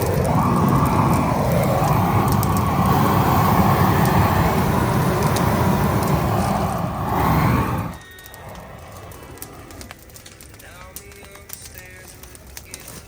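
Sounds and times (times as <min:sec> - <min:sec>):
propane torch flame rushing: 0:00.0 - 0:13.0.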